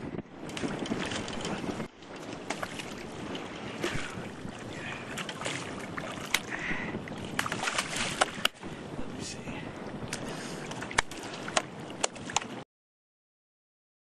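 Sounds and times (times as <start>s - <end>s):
water splashing around boat: 0.2s - 12.6s.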